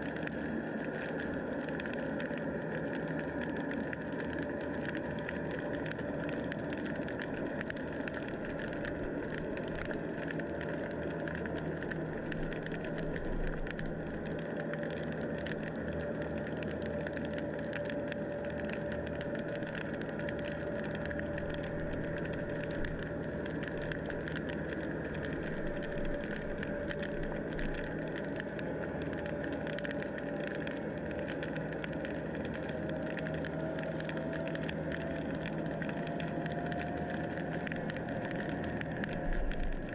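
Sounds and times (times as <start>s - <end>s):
motor humming underwater: 0.0s - 39.9s.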